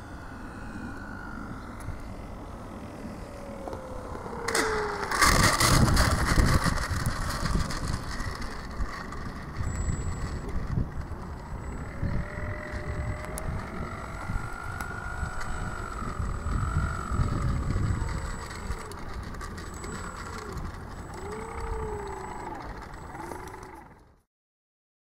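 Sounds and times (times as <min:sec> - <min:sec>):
electric model plane motor whine: 0:00.0 - 0:24.2
wind rumble on microphone: 0:00.0 - 0:24.2.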